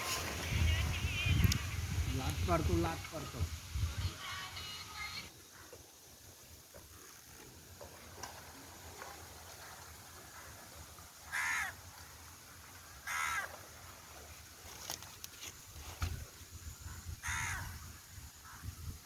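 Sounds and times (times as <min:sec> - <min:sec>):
faint outdoor background: 0:00.0 - 0:19.0.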